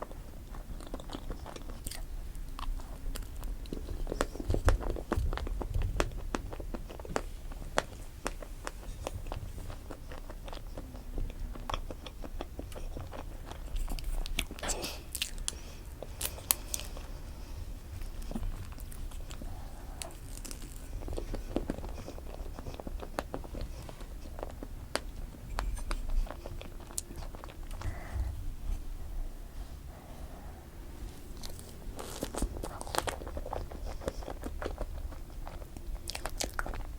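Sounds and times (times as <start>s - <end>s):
cake being bitten and chewed: 0.0s - 28.1s, 31.1s - 36.9s.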